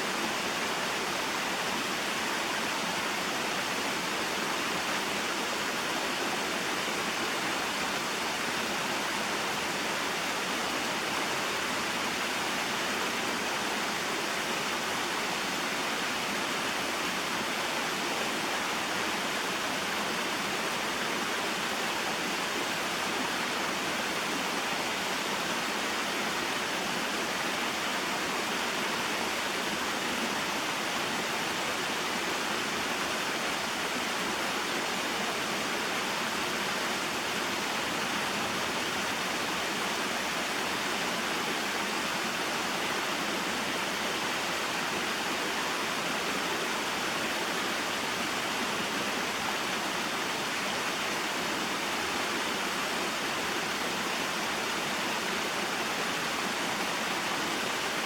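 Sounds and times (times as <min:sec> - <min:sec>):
small waterfall rushing: 0:00.0 - 0:58.0.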